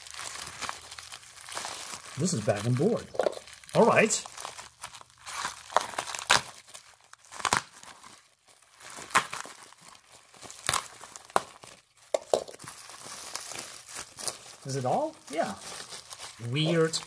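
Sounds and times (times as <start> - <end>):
plastic bags crinkling: 0.0 - 17.0
sharp plastic crackles: 0.0 - 17.0.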